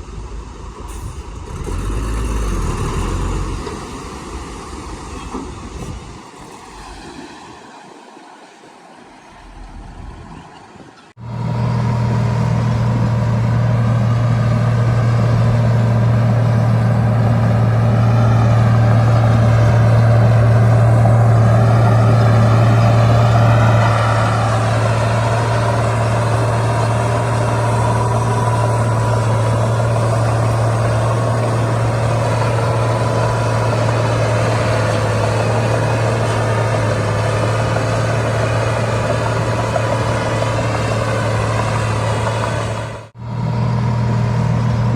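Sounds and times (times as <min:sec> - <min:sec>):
heavy diesel engine running: 0:00.0 - 0:07.2, 0:11.2 - 0:44.9.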